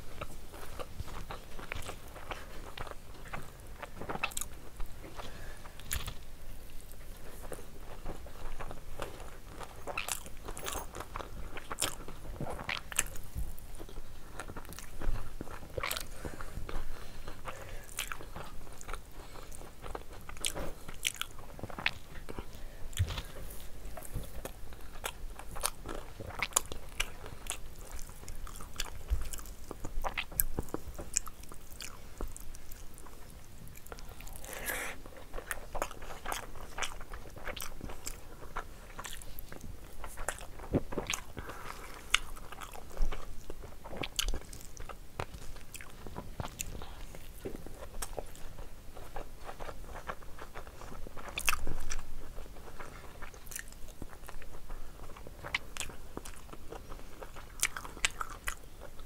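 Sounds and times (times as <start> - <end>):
food crunching: 0.0 - 59.0
person chewing food: 0.0 - 59.0.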